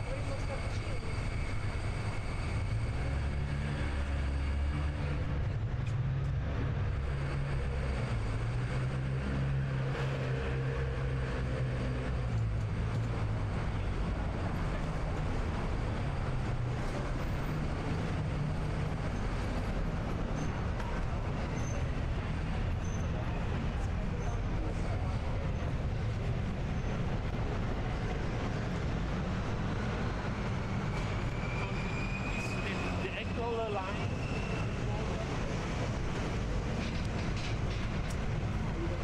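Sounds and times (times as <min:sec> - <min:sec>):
street noise: 0:00.0 - 0:39.0
vehicle engine rumble: 0:00.0 - 0:39.0.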